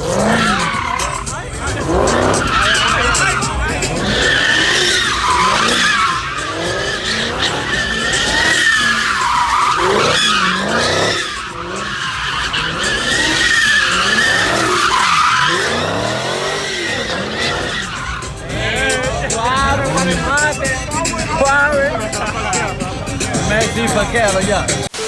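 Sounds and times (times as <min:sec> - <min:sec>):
car engine revving: 0:00.0 - 0:24.9
tires squealing: 0:00.0 - 0:25.0.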